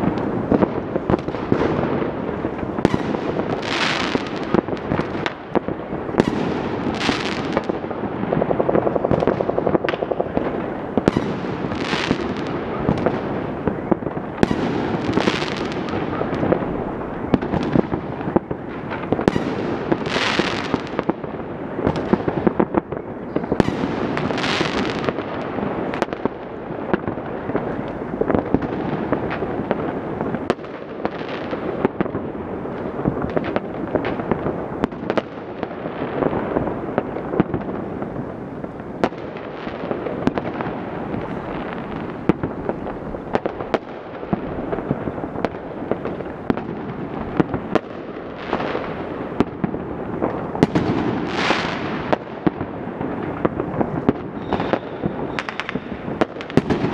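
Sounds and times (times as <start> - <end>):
fireworks crackling and banging: 0.0 - 56.9.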